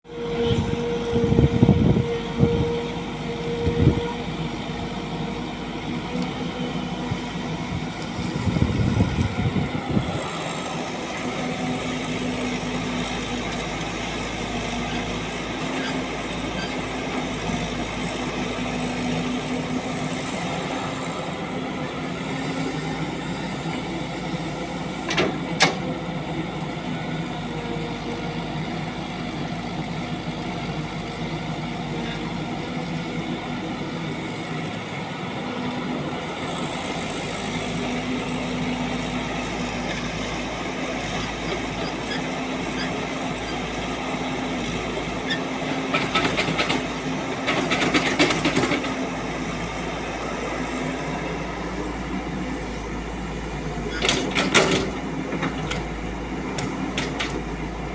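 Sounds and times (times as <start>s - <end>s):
diesel engine running: 0.1s - 57.9s.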